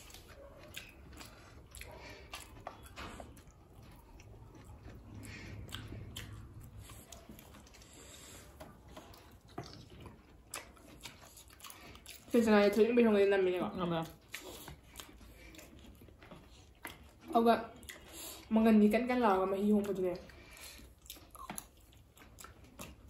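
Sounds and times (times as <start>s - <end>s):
chewing and biting food: 0.0s - 23.0s
faint low hum: 0.0s - 23.0s.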